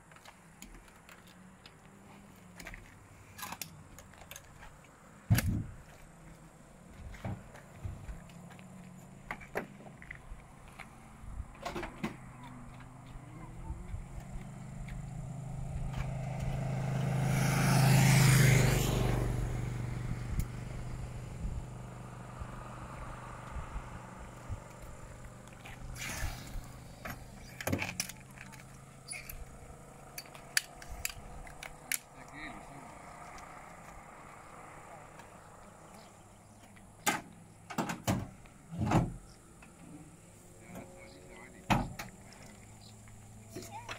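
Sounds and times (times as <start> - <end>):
car passing: 4.8 - 43.8.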